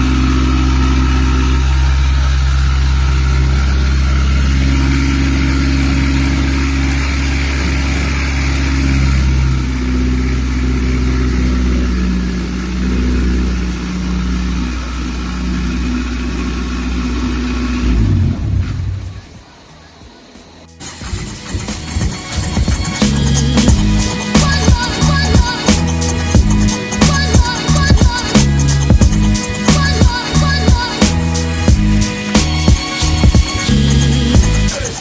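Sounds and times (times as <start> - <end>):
engine running on test stand: 0.0 - 35.0.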